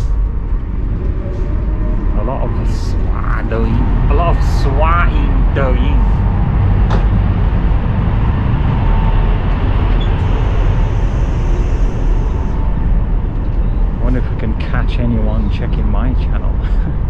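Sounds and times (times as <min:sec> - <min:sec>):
train running rumble and hiss: 0:00.0 - 0:17.0.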